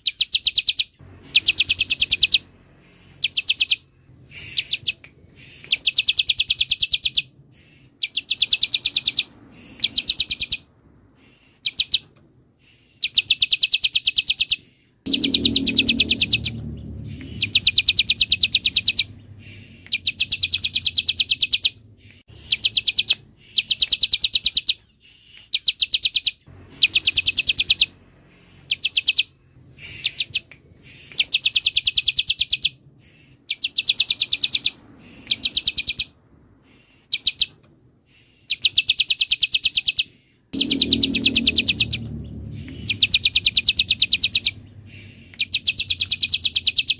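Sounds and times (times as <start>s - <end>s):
bird singing high-pitched trills: 0.0s - 5.0s, 5.6s - 7.3s, 8.0s - 10.7s, 13.0s - 24.8s, 25.6s - 28.0s, 28.6s - 30.5s, 31.2s - 32.8s, 33.5s - 36.2s, 38.5s - 46.9s.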